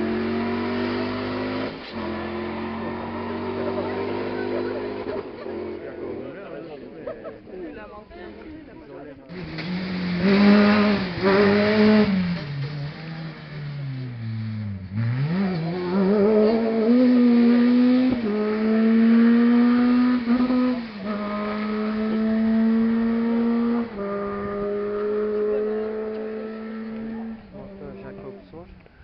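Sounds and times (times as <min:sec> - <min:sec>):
rally car engine revving: 0:00.0 - 0:06.7, 0:09.3 - 0:28.6.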